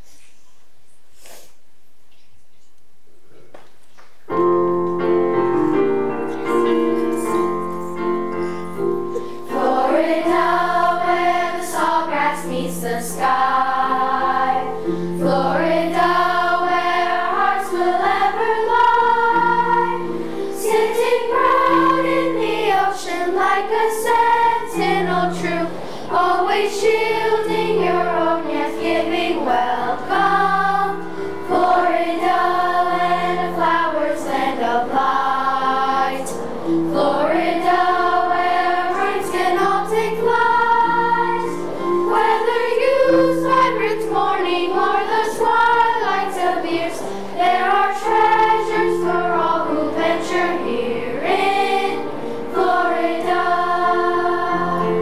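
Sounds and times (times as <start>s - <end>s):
piano accompaniment: 4.2s - 55.0s
children's chorus singing: 5.7s - 55.0s.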